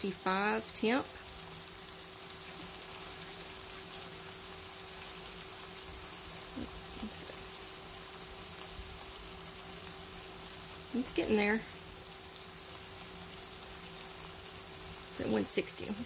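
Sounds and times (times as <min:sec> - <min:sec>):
sausages sizzling in a frying pan: 0:00.0 - 0:16.0.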